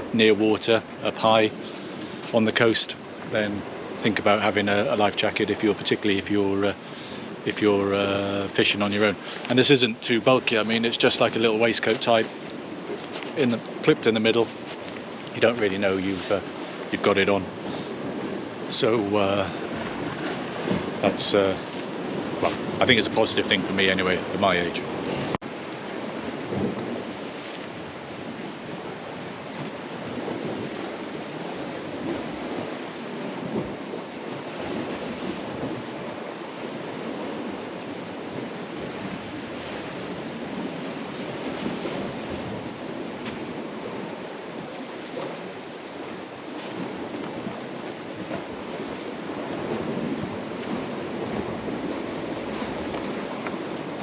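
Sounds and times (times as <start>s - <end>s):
surf washing against rocks: 0.0s - 54.0s
wind on microphone: 0.0s - 54.0s.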